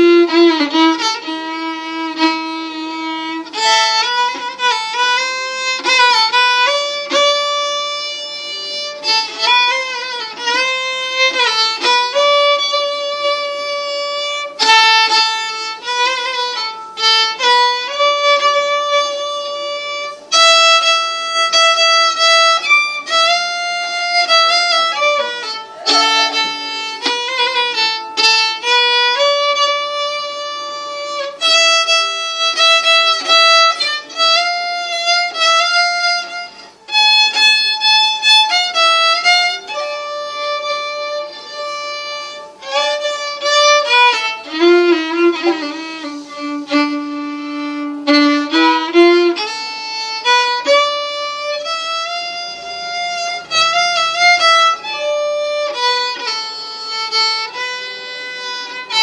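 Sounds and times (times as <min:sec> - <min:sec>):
solo bowed violin melody: 0:00.0 - 0:59.0.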